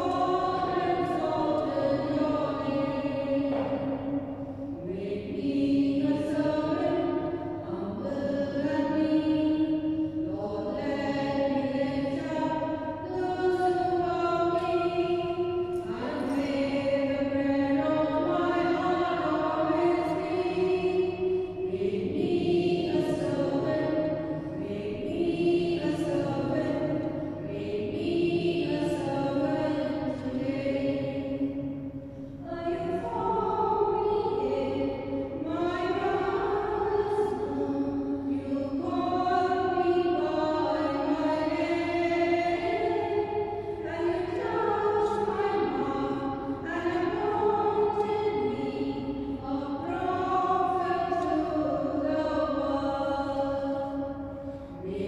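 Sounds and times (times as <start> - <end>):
slow sung hymn: 0.0 - 55.0.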